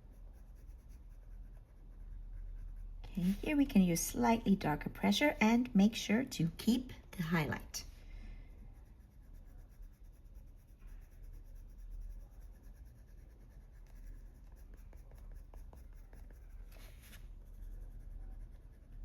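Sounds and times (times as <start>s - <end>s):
pencil scratching on paper: 0.0s - 19.0s.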